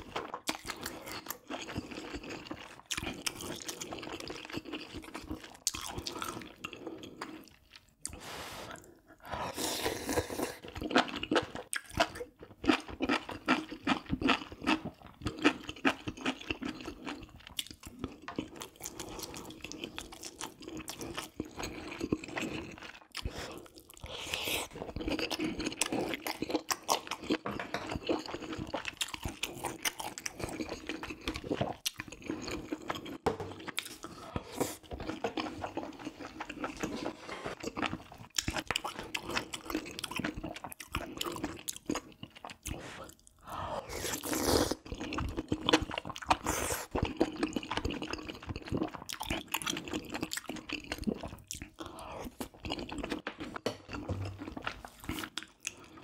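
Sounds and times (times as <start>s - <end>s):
person chewing with mouth sounds: 0.0s - 56.0s.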